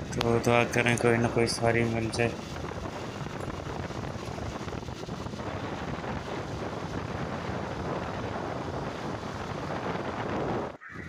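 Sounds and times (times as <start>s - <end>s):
road noise: 0.0s - 11.0s
wind rush on microphone: 0.0s - 11.0s.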